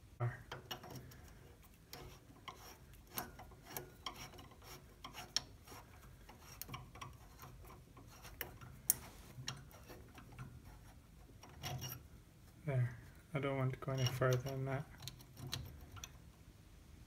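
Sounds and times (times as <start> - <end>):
metal scraping on metal: 0.4 - 12.6, 13.3 - 16.2.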